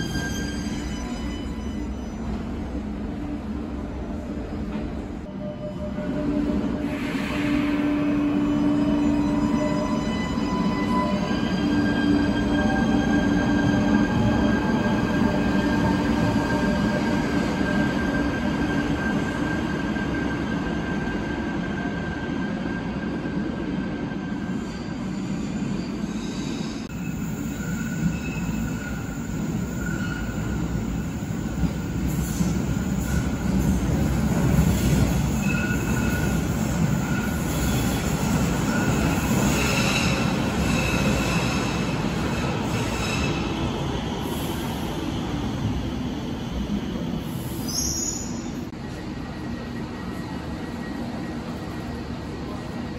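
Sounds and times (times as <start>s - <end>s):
train wheel squeal: 0.0s - 2.5s, 5.3s - 52.9s.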